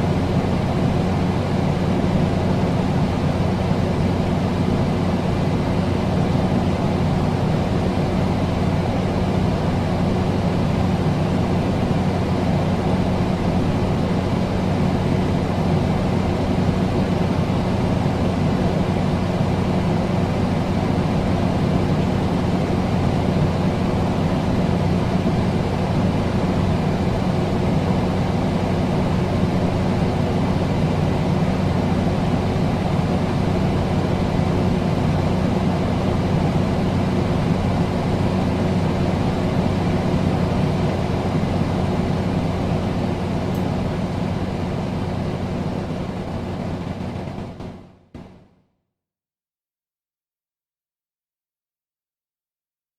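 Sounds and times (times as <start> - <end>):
air conditioner fan airflow: 0.0 - 48.3.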